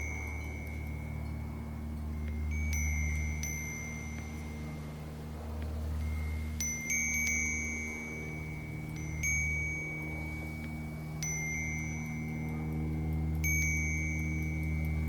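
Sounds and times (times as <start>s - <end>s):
steady low hum: 0.0s - 15.0s
wind chime ringing: 0.0s - 15.0s.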